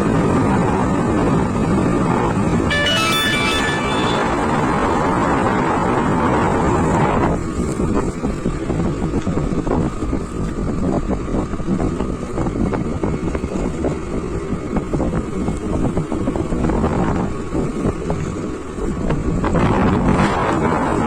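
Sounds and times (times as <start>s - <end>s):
wind buffeting microphone: 0.0s - 2.7s, 4.2s - 21.0s
motorbike running: 0.0s - 21.0s.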